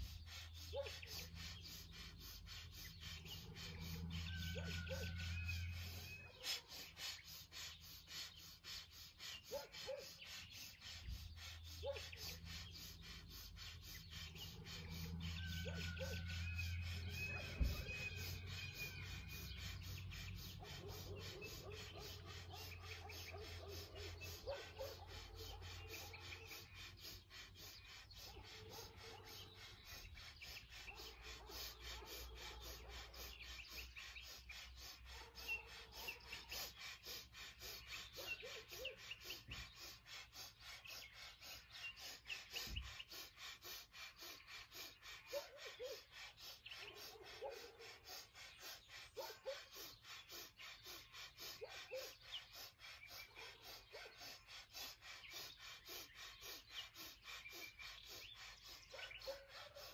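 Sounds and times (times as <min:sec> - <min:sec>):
bird chirps: 0:00.0 - 0:59.9
lower bird calls: 0:00.0 - 0:59.9.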